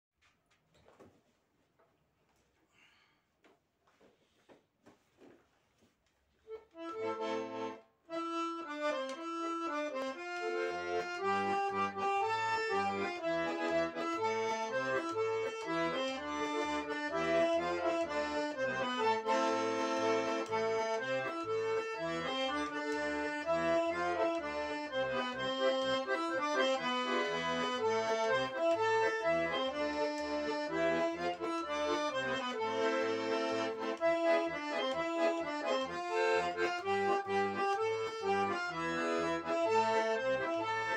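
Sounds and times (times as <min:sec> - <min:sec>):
button accordion folk tune: 0:06.5 - 0:40.9.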